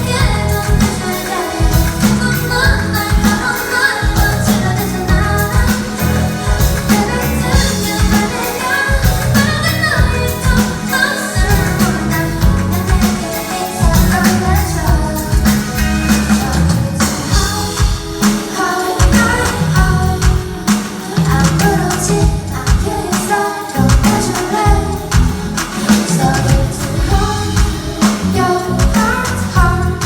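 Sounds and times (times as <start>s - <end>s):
band with beat and bass: 0.0s - 30.0s
person singing: 0.0s - 30.0s.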